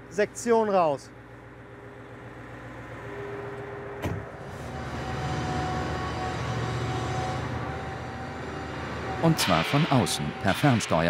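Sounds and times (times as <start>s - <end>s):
transporter engine droning: 1.9s - 11.0s.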